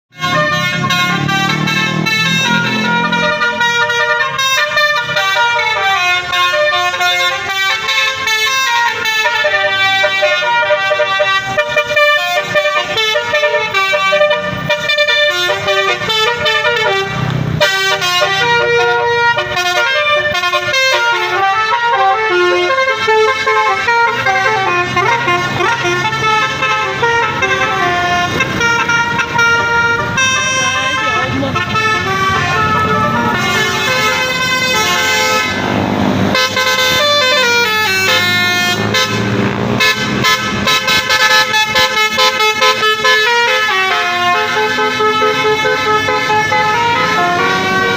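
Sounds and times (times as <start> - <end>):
musical bus air horns: 0.1 - 47.9.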